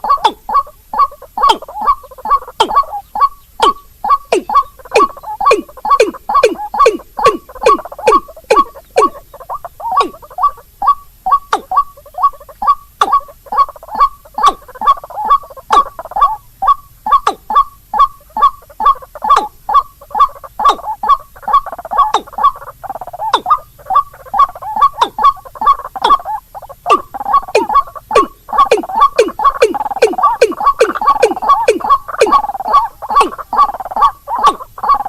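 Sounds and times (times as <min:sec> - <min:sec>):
rail calls chattering: 0:00.0 - 0:35.0
waterhen calls: 0:00.0 - 0:35.0.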